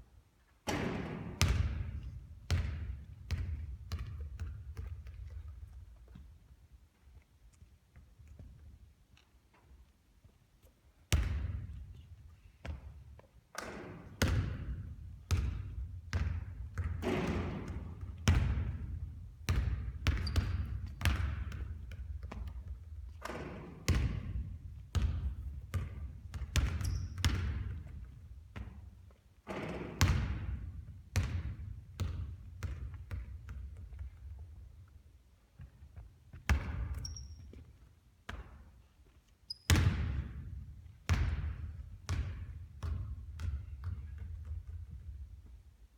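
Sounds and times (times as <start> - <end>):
basketball bouncing on hard court: 0.7 - 6.4, 11.1 - 12.0, 12.6 - 34.8, 35.6 - 38.7, 39.5 - 45.4.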